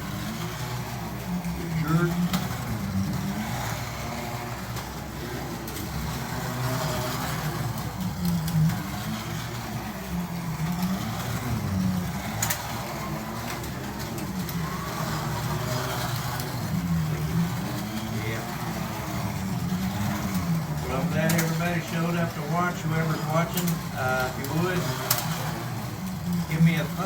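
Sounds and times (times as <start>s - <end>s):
slot car motors whining: 0.0s - 27.0s.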